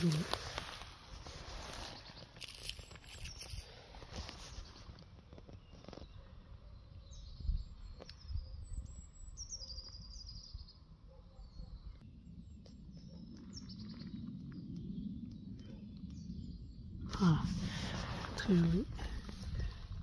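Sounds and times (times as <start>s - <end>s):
songbirds chirping and trilling: 0.0s - 20.0s
wind rumble on microphone: 3.0s - 10.8s, 11.6s - 20.0s.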